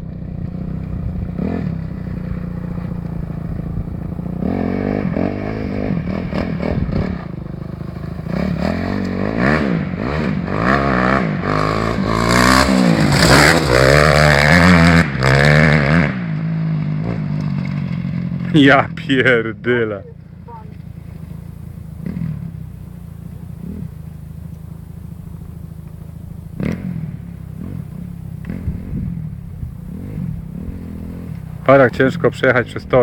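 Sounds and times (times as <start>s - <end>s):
motorcycle idling: 0.0s - 14.7s, 16.2s - 33.0s
dirt bike engine revving: 0.0s - 33.0s.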